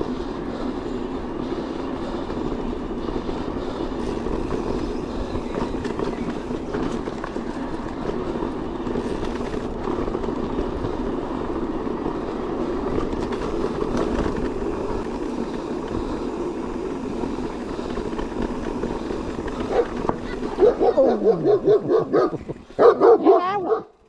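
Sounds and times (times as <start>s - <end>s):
bike tyres rumbling on dirt: 0.0s - 24.0s.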